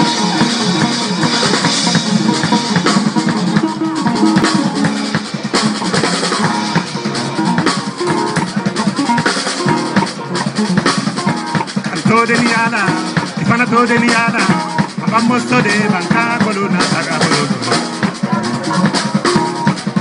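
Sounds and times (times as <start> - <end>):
plucked harp-lute notes: 0.0 - 19.7
quick drum kit hits: 0.0 - 20.0.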